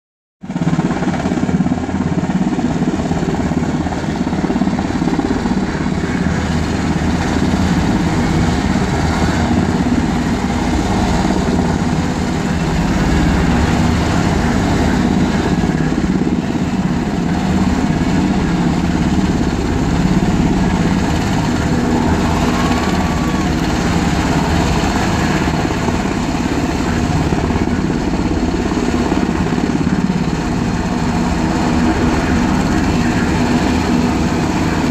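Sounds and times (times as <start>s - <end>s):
helicopter rotor and engines: 0.4s - 34.9s.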